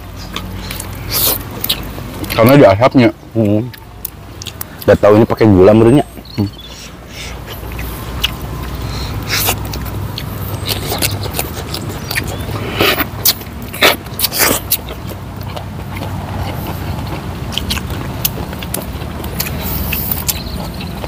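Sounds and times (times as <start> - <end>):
wet chewing and lip smacks: 0.0 - 2.6, 3.4 - 5.4, 6.0 - 21.0.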